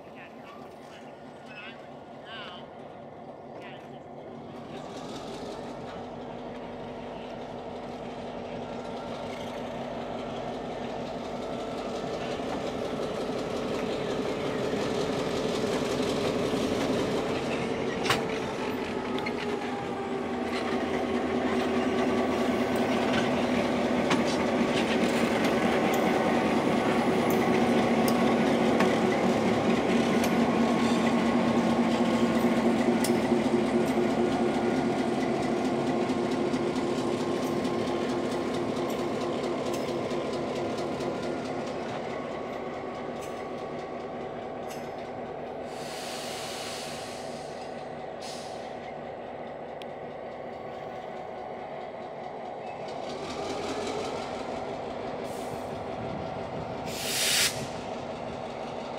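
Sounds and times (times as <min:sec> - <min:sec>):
diesel locomotive engine running: 0:00.0 - 0:58.9
train wheels clicking over rails: 0:04.5 - 0:58.9.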